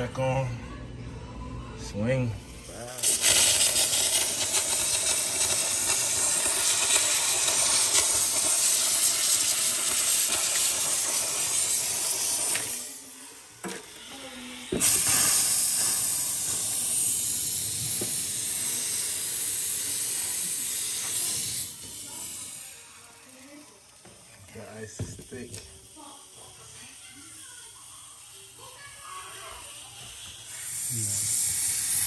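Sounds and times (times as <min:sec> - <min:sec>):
defrosting tool hissing: 0:02.4 - 0:32.0.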